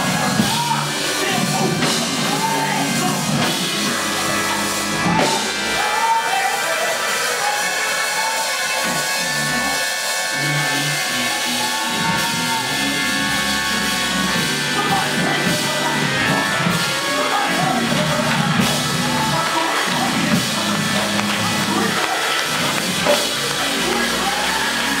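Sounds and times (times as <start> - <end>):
drum kit: 0.0 - 25.0.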